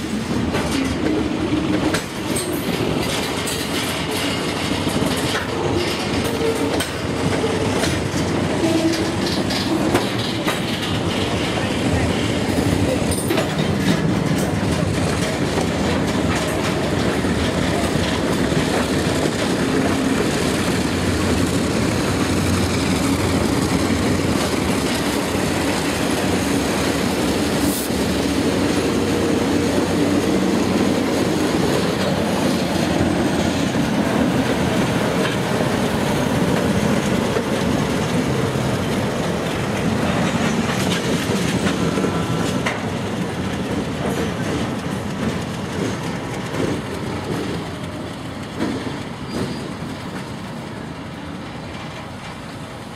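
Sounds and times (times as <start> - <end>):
freight train rolling: 0.0 - 52.9
wheels clacking over rail joints: 0.0 - 52.9.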